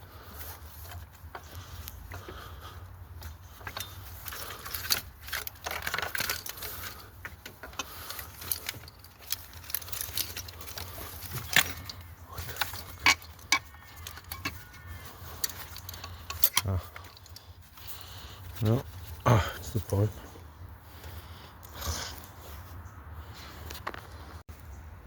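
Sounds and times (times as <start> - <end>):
metal tools clinking and scraping: 0.2 - 20.4.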